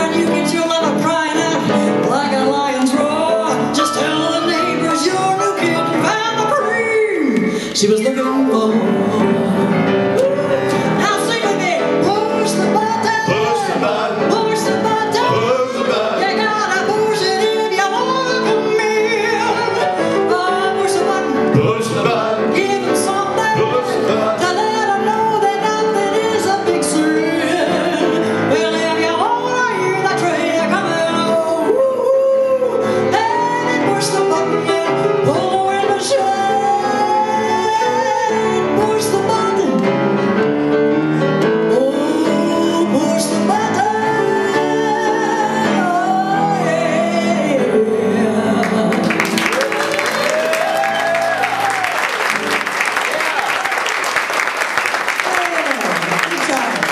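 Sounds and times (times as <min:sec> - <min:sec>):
woman singing into microphone: 0:00.0 - 0:40.1, 0:41.6 - 0:51.4
piano accompaniment: 0:00.0 - 0:56.9.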